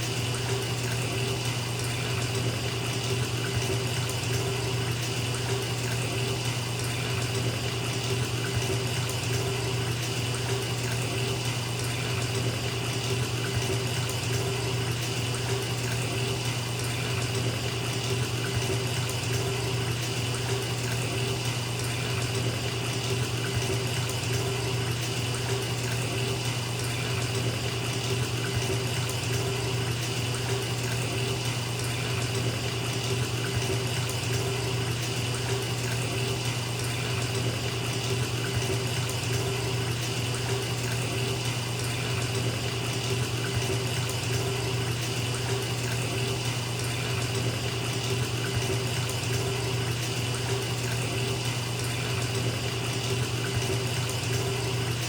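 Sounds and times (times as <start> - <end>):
tap water filling bathtub: 0.0 - 55.0.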